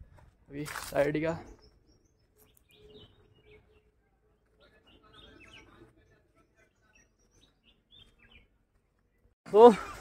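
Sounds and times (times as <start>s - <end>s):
faint bird chirps: 1.4s - 10.0s.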